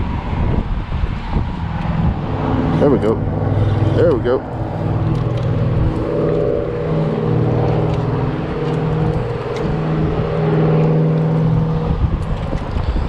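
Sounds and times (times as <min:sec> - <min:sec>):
motor engine droning: 0:00.6 - 0:13.0.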